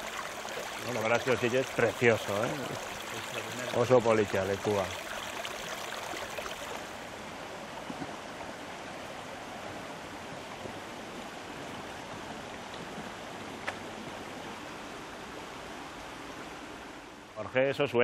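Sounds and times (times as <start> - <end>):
river flowing: 0.0 - 17.4.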